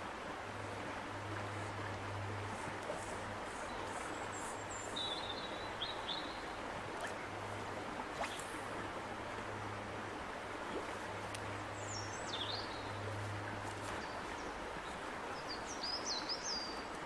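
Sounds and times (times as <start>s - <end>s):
river water flowing over stones: 0.0s - 17.0s.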